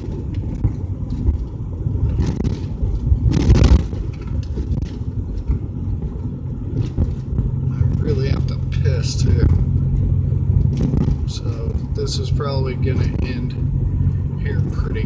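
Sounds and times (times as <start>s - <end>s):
car engine rumble: 0.0s - 15.0s
car road noise: 0.0s - 15.0s.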